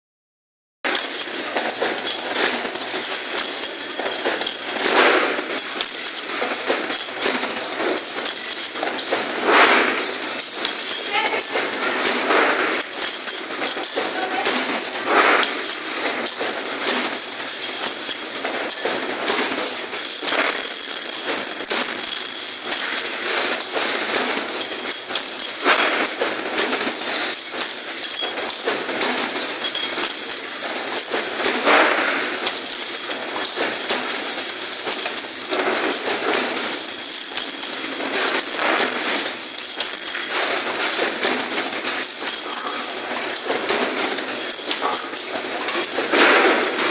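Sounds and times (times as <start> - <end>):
machinery rattling clatter: 0.9 - 46.9.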